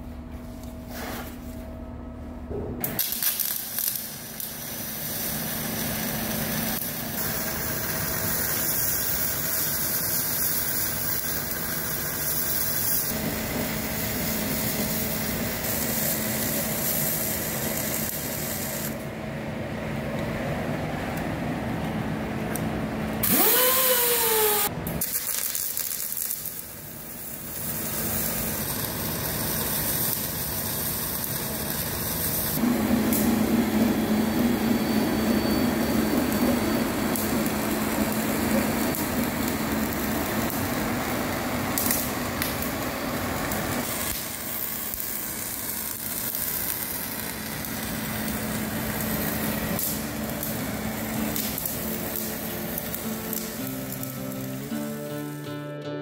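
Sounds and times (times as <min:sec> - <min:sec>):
welding arc buzzing: 0:02.8 - 0:19.1, 0:22.5 - 0:55.6.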